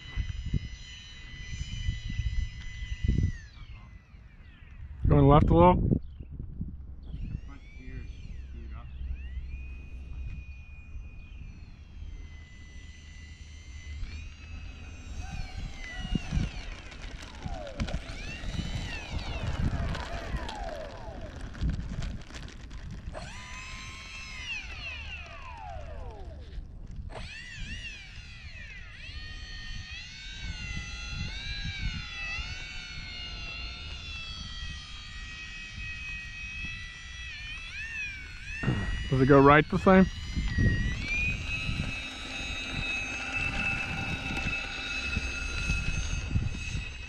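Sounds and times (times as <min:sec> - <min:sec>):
electric ducted fans whining: 0:00.0 - 0:47.0
wind rumble on microphone: 0:00.0 - 0:47.0.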